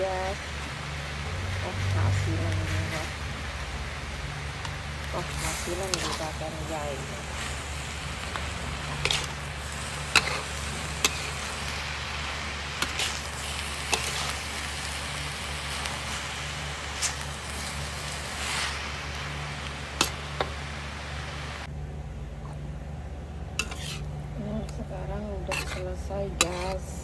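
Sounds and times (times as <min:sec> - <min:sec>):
food sizzling hiss: 0:00.0 - 0:21.7, 0:23.6 - 0:24.1, 0:25.0 - 0:27.0
low hum: 0:00.0 - 0:27.0.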